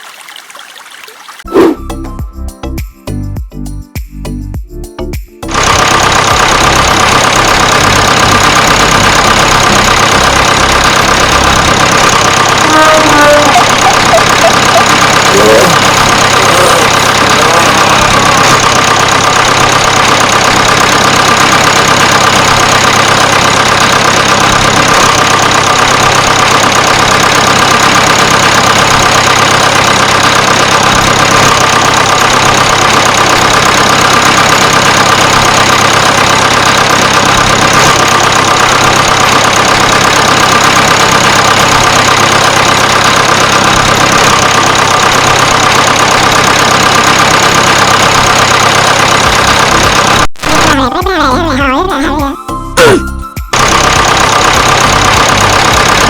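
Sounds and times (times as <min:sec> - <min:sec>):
motor running steadily: 0:05.4 - 0:51.8, 0:53.5 - 0:56.0.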